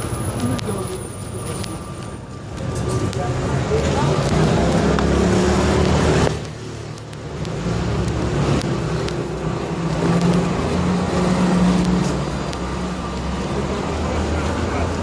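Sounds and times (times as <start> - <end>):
street noise: 0.0 - 15.0
vehicle engine humming: 0.0 - 15.0.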